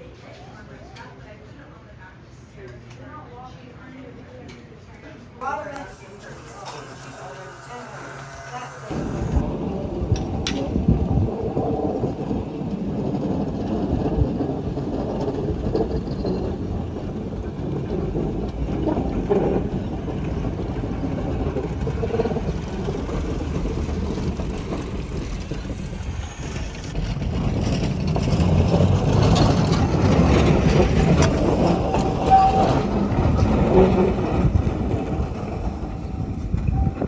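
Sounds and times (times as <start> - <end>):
train rumbling: 3.0 - 37.0.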